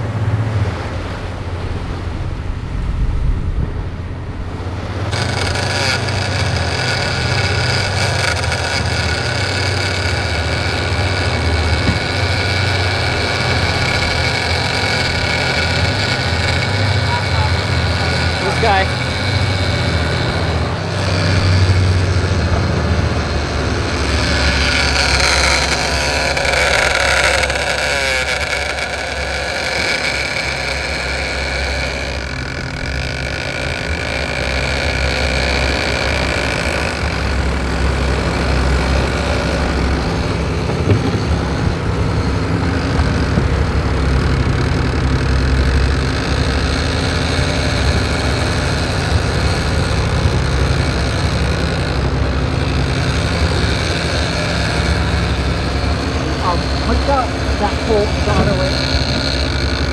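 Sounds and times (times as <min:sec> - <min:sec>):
boat engine droning: 0:00.0 - 0:59.9
wind: 0:00.0 - 0:59.9.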